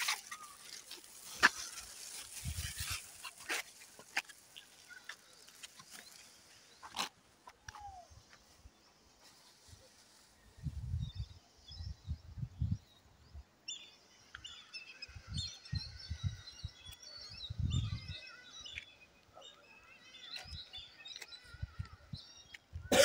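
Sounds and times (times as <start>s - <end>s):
birds chirping and singing: 0.0s - 22.8s.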